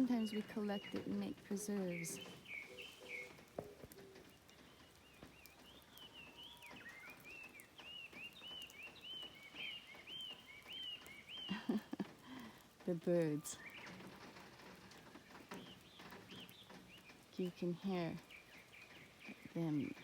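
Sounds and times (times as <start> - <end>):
small songbirds singing: 0.0 - 20.0.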